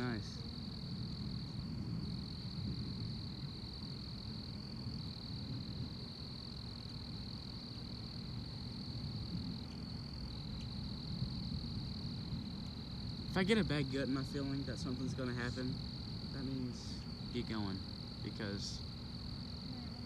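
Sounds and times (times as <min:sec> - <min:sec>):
crickets chirping: 0:00.0 - 0:20.0
high continuous insect trill: 0:00.0 - 0:20.0
low steady rumbling noise: 0:00.0 - 0:20.0.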